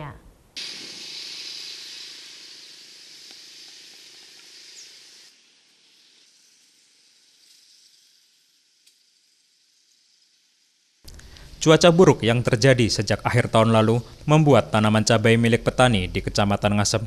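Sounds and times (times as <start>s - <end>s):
outdoor field ambience hiss: 0.0s - 17.0s.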